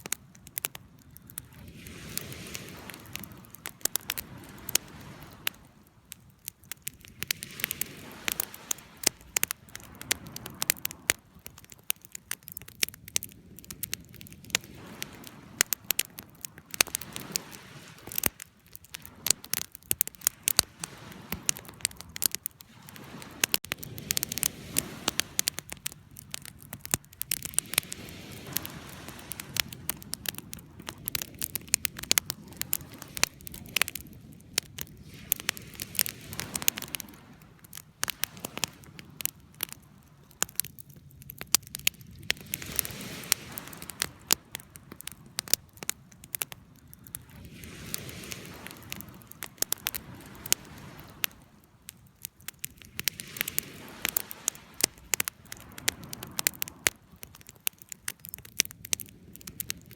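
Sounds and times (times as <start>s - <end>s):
low rush of flame: 0.0s - 59.9s
wood fire crackling and popping: 0.0s - 59.9s.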